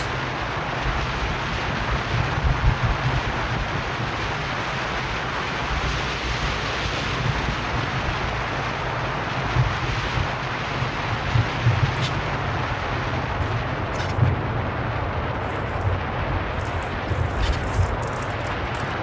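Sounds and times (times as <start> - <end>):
road and wind noise in car: 0.0 - 19.0
wind buffeting microphone: 0.0 - 19.0.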